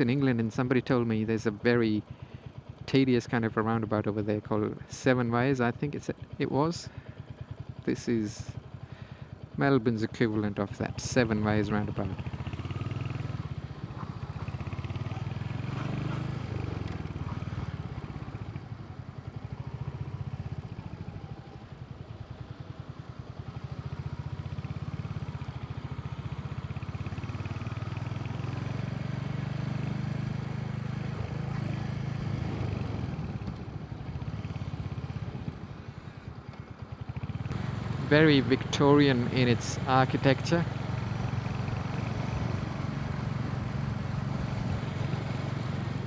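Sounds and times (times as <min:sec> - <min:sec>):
motorcycle engine running: 0:06.1 - 0:46.0.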